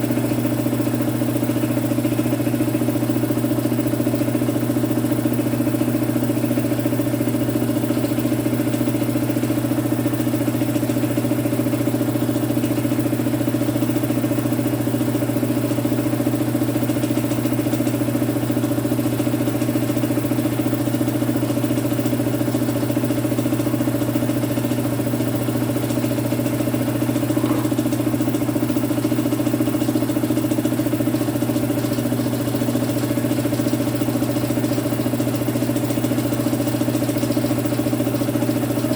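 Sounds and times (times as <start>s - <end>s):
electric compressor motor humming: 0.0s - 38.9s.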